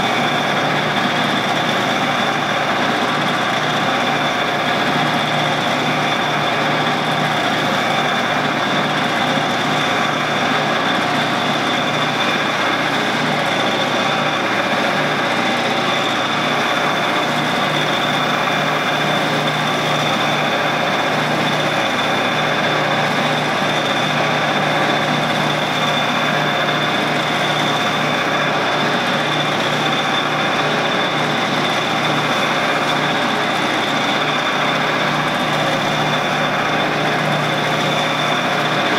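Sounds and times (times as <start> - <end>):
motor hum with high whine: 0.0 - 38.9.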